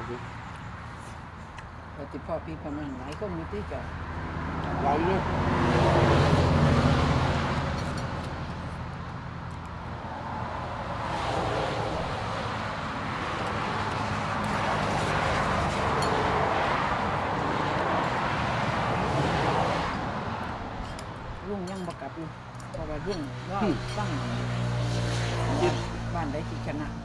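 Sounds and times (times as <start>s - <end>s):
road vehicle noise rushing: 3.5s - 27.0s.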